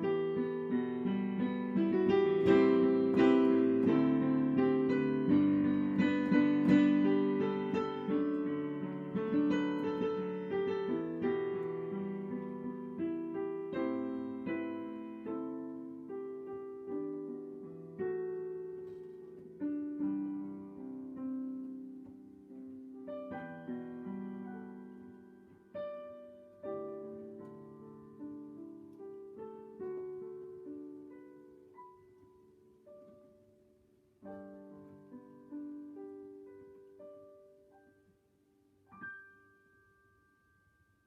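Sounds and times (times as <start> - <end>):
slow solo piano: 0.0 - 41.0.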